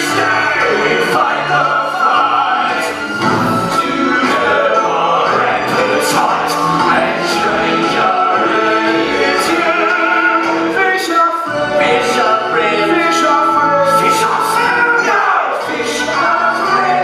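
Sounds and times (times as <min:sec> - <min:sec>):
instrumental backing: 0:00.0 - 0:17.0
voices singing held notes: 0:00.0 - 0:17.0.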